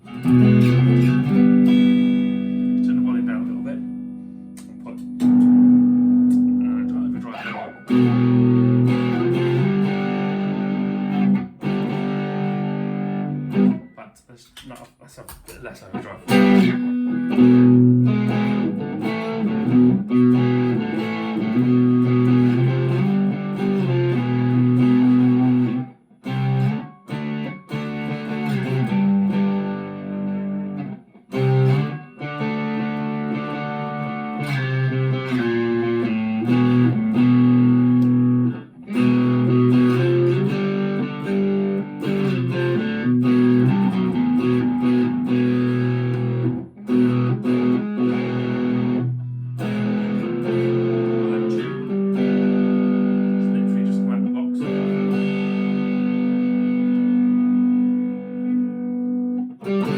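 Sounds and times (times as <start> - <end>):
overdriven electric guitar chords: 0.0 - 14.1, 16.2 - 59.9.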